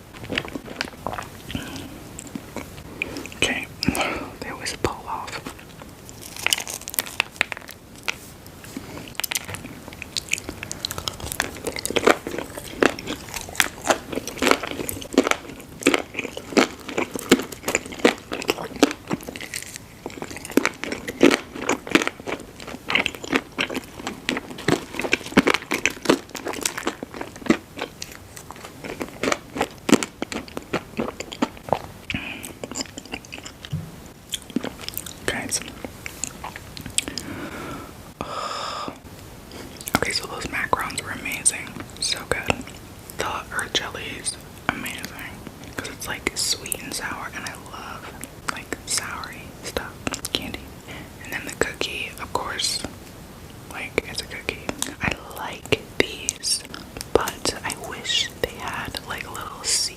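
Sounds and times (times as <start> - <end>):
crunchy chewing of sweets: 0.0 - 53.1, 53.7 - 59.9.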